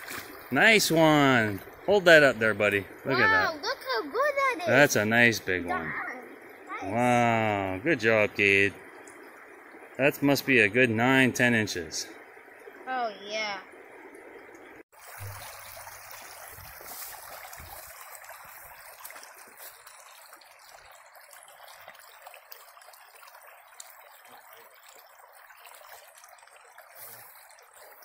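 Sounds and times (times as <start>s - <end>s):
creek flowing over stones: 0.0s - 28.0s.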